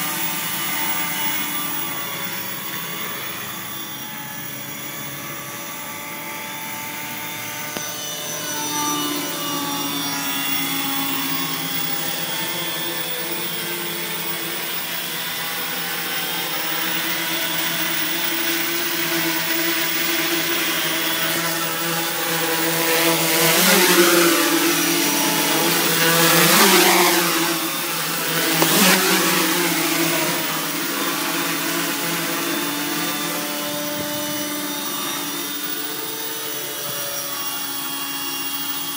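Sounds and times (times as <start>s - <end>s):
quadcopter propellers buzzing: 0.0s - 38.9s.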